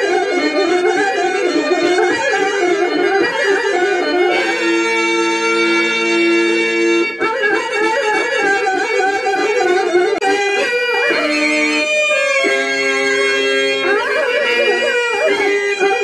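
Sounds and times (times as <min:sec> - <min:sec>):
harmonium reed music: 0:00.0 - 0:16.0.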